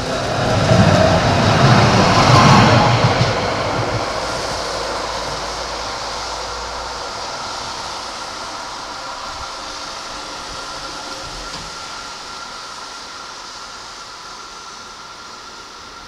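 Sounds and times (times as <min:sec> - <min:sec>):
tram passing: 0:00.0 - 0:16.0.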